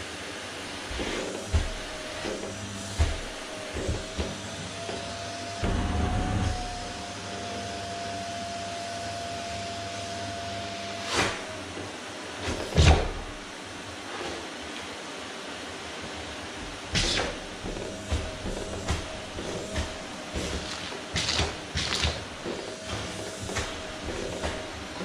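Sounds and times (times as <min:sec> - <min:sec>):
vacuum cleaner whine: 0:00.0 - 0:25.0.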